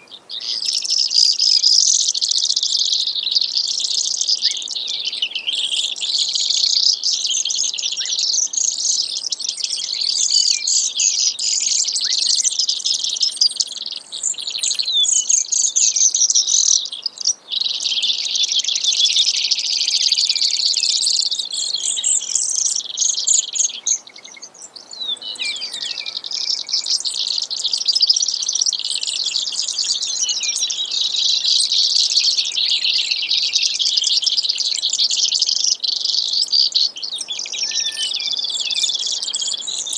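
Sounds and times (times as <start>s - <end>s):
sparrow singing buzzy trills: 0.0s - 39.9s.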